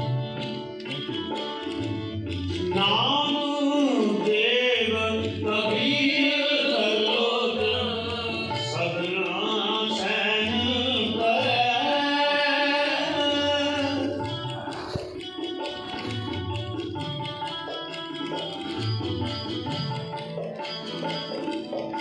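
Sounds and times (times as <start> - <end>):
sustained harmonium: 0.0 - 22.0
tabla strokes: 0.0 - 22.0.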